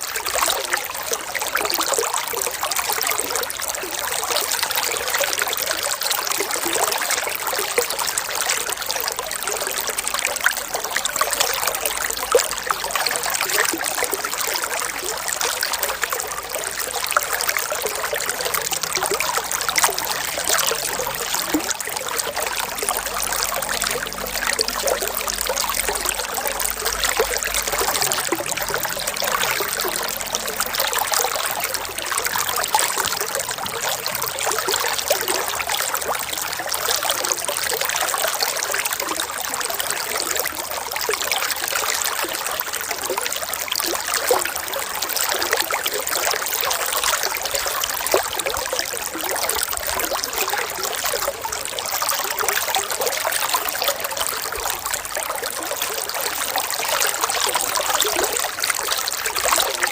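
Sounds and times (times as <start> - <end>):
running water trickling and splashing: 0.0 - 59.9.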